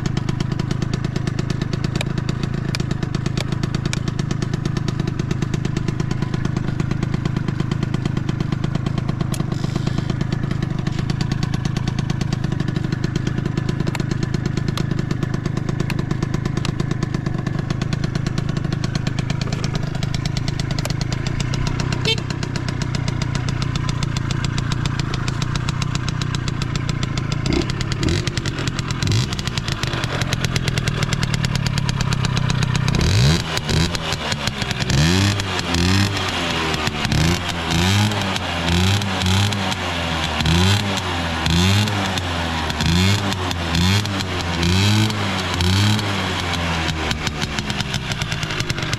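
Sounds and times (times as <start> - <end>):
scooter engine idling and revving: 0.0 - 48.9.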